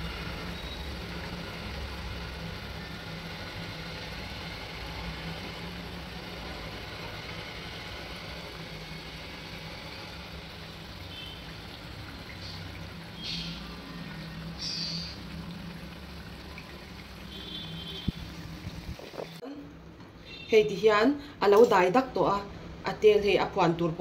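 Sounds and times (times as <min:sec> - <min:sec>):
oil sizzling and bubbling: 0:00.0 - 0:19.4.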